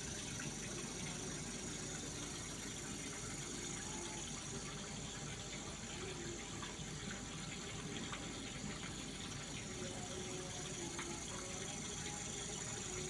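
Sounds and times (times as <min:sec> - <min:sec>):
low machine hum: 0:00.0 - 0:13.0
running water: 0:00.0 - 0:13.0.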